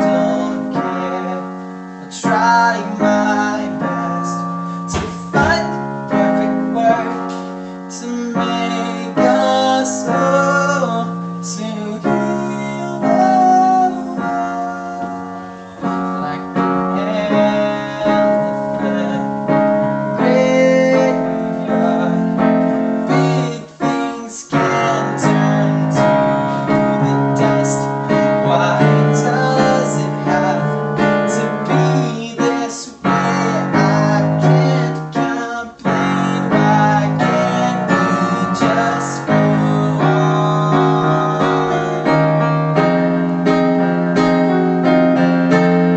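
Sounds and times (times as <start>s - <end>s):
man singing: 0.0s - 44.5s
piano chords and melody: 0.0s - 45.9s.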